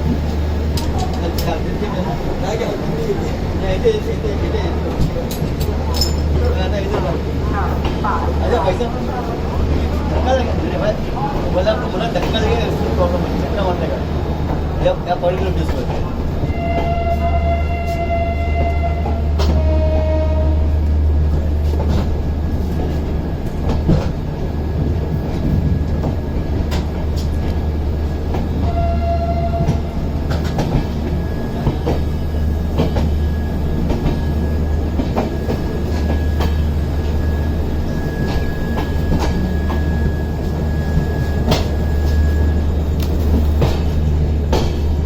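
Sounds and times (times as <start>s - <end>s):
train rumbling at speed: 0.0s - 45.0s.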